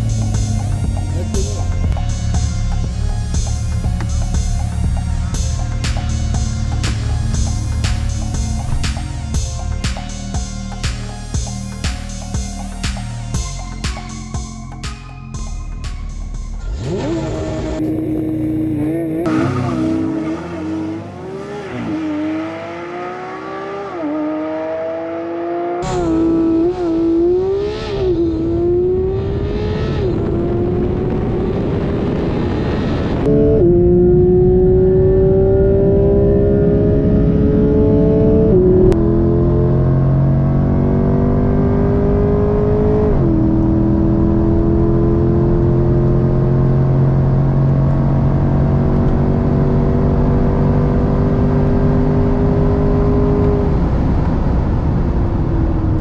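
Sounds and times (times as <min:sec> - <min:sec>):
car engines revving and accelerating: 0:00.0 - 0:10.3, 0:16.6 - 0:56.0.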